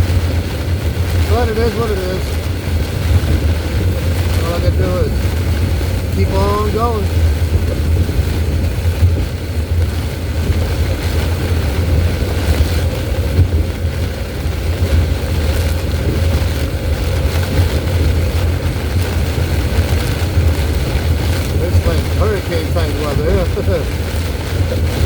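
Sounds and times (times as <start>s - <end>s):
car interior rumble: 0.0s - 25.0s
heavy rain on car: 0.0s - 25.0s
wind buffeting car: 0.0s - 25.0s.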